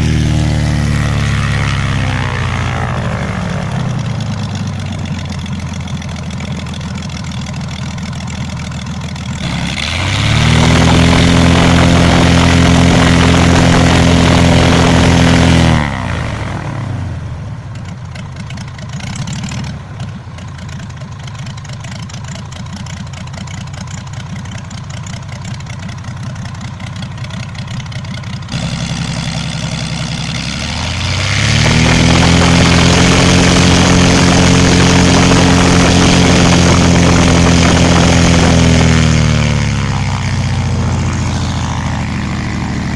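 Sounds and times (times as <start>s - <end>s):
aircraft engine idling and revving: 0.0s - 42.9s.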